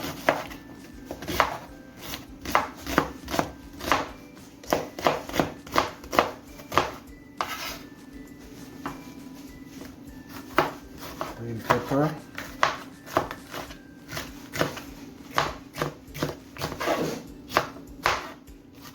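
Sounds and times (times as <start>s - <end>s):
knife chopping on cutting board: 0.0s - 7.9s, 9.8s - 18.9s.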